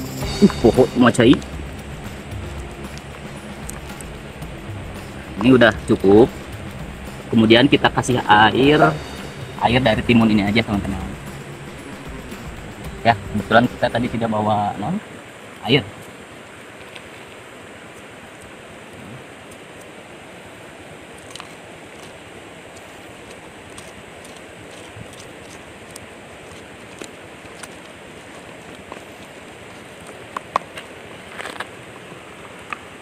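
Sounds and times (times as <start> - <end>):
flowing river water: 0.0 - 33.0.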